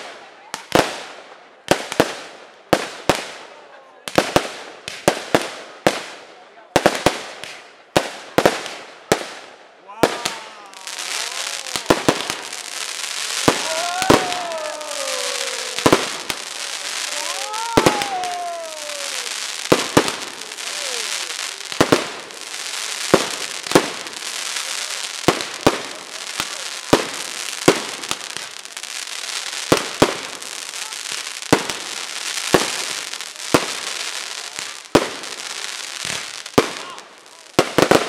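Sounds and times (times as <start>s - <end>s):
crackling hiss of fireworks: 0.0s - 38.0s.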